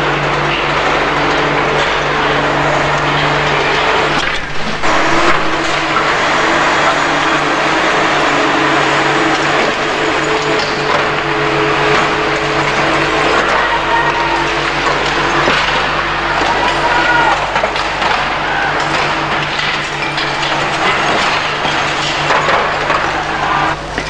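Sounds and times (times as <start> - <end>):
heavy truck engine running: 0.0 - 24.0.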